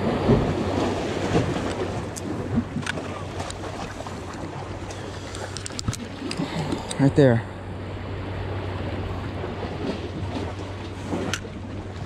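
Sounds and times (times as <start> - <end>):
small waves washing against rocks: 0.0 - 7.4, 9.2 - 12.0
wind buffeting microphone: 0.0 - 12.0.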